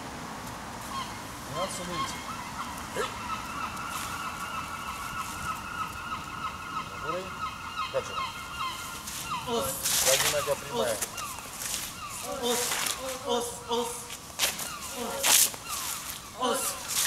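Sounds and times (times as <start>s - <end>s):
birds squawking: 0.8s - 17.0s.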